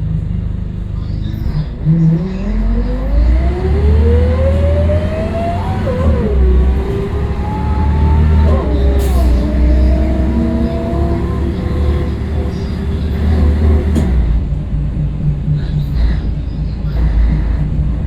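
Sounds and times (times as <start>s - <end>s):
diesel bus engine pulling away: 0.0s - 18.0s.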